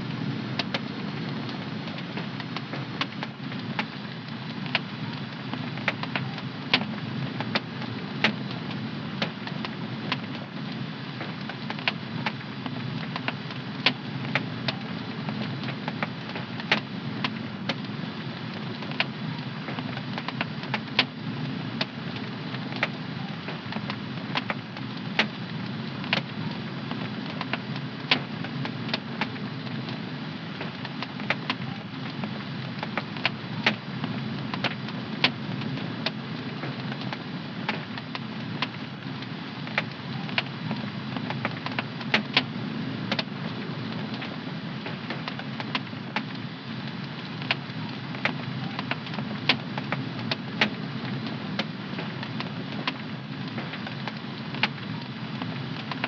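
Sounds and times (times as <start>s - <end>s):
wood fire crackling and popping: 0.1s - 56.0s.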